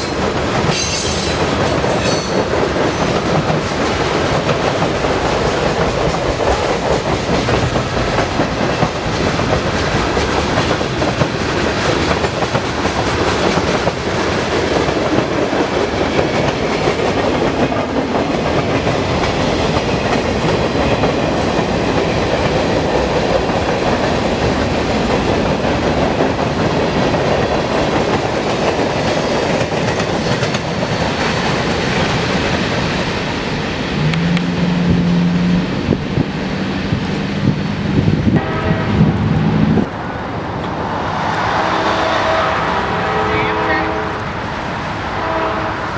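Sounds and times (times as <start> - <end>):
train wheels clattering on rails: 0.0 - 41.6.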